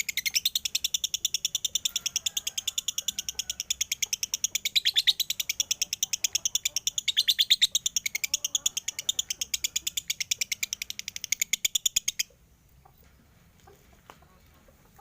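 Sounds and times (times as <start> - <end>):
lovebird chattering: 0.0 - 12.4.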